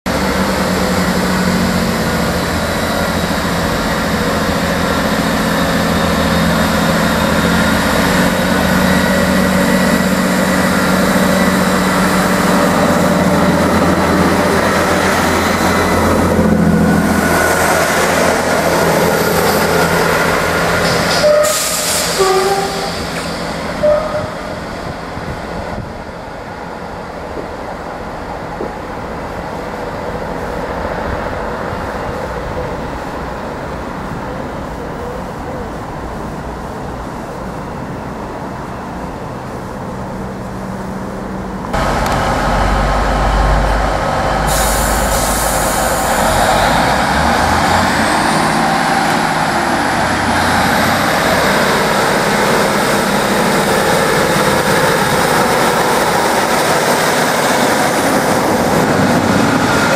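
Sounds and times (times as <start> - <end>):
diesel engines droning: 0.1 - 59.9
train wheels on rails: 0.1 - 59.9.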